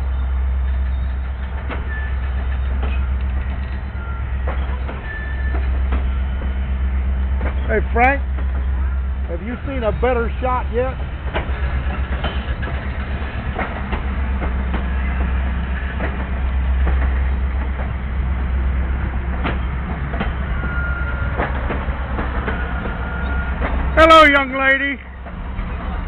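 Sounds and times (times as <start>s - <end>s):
train rumbling past: 0.0s - 26.0s
wheels clacking over rail joints: 0.6s - 26.0s.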